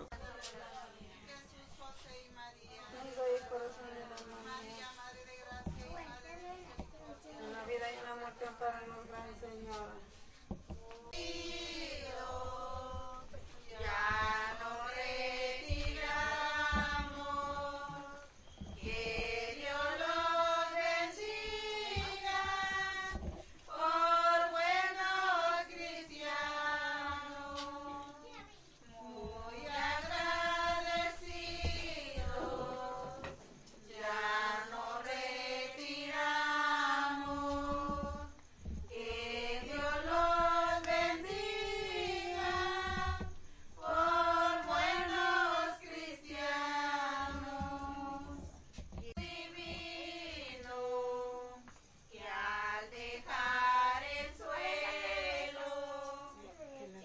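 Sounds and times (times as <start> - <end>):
group singing a hymn: 2.6 - 57.0.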